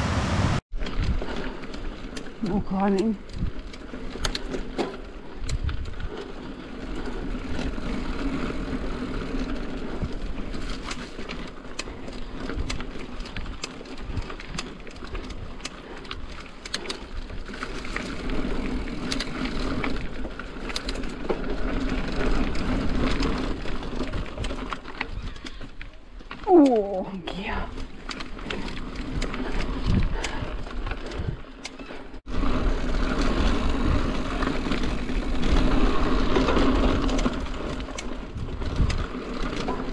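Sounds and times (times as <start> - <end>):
bike tyres rolling on dirt: 0.0 - 39.9
bike clicks and rattles: 0.7 - 39.9.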